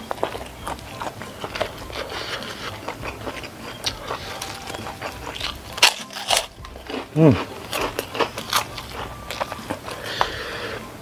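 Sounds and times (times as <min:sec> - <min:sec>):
wet chewing and mouth smacks: 0:00.0 - 0:10.8
fingers gathering rice: 0:00.0 - 0:10.9.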